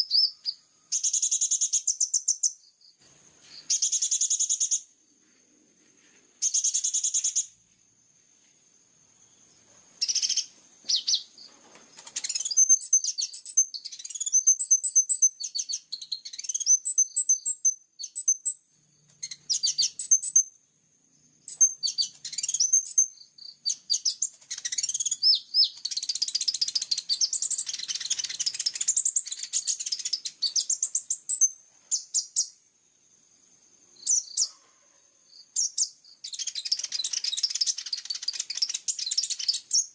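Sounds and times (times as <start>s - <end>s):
bird chirping and trilling: 0.0s - 2.9s, 3.5s - 4.9s, 6.4s - 7.6s, 10.0s - 20.6s, 21.2s - 32.6s, 34.0s - 34.7s, 35.4s - 39.9s.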